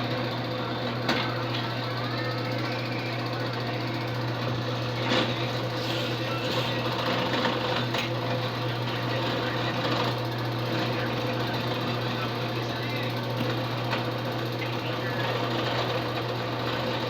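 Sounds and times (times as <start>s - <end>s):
small electric motor running: 0.0s - 17.0s.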